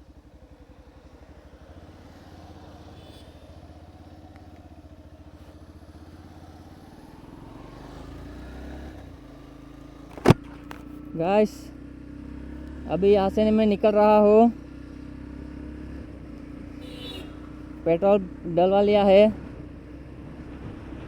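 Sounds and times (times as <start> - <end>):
motorcycle engine pulsing exhaust: 0.0 - 21.0.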